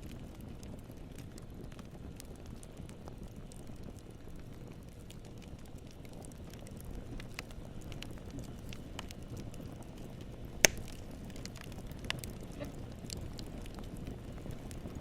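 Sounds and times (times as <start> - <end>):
burning wood crackling and snapping: 0.0 - 15.0
low rumble of flames: 0.0 - 15.0.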